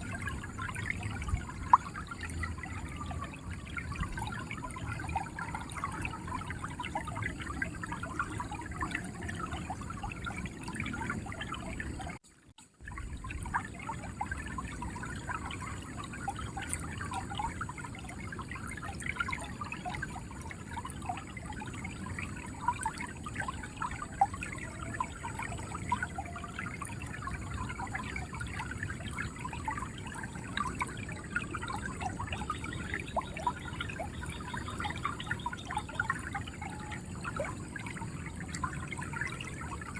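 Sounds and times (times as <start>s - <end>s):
river water gurgling over stones: 0.0s - 39.9s.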